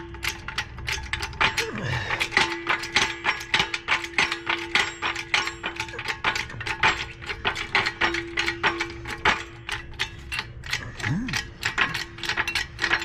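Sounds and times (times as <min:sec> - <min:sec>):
metallic clicking and clanking: 0:00.0 - 0:13.0.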